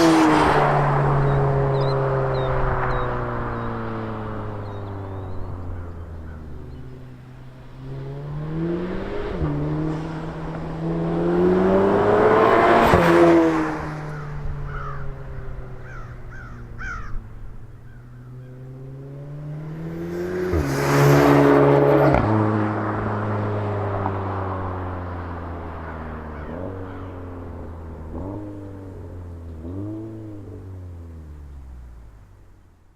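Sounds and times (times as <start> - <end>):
car engine accelerating hard: 0.0 - 32.4.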